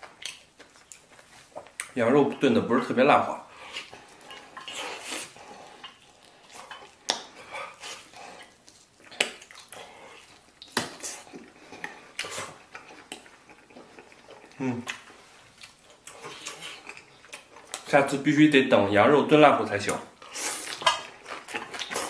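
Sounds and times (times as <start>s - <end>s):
person chewing meat off bone: 0.0s - 1.9s, 3.5s - 17.9s, 20.2s - 22.0s.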